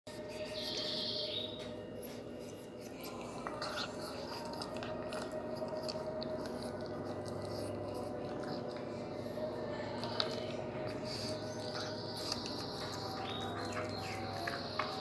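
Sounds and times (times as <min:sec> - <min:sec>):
puppy chewing: 0:00.1 - 0:15.0.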